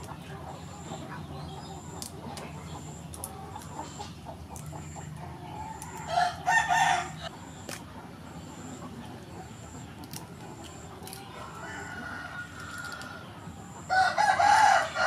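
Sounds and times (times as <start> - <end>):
chicken clucking: 0.0 - 15.0.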